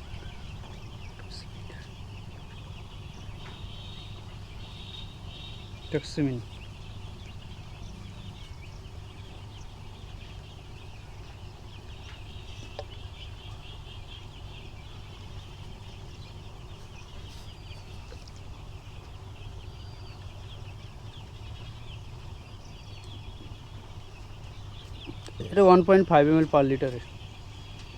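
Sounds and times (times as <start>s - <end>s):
chicks peeping: 0.0s - 27.9s
steady low hum: 0.0s - 27.9s.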